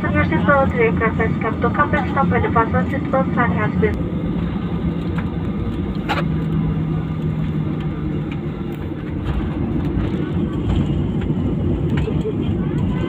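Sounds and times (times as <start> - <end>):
airliner cabin rumble: 0.0 - 13.0
low hum: 0.0 - 13.0.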